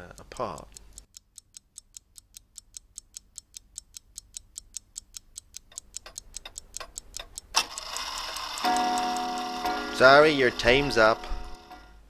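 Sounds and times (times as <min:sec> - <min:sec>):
alarm clock ticking quickly: 0:00.0 - 0:12.0.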